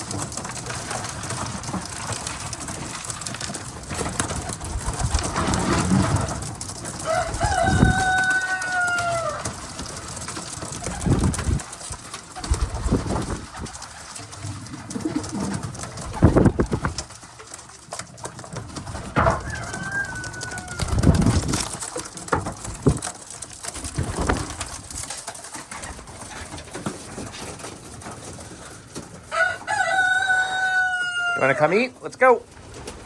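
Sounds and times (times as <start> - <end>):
pigeons cooing: 0.0 - 31.8.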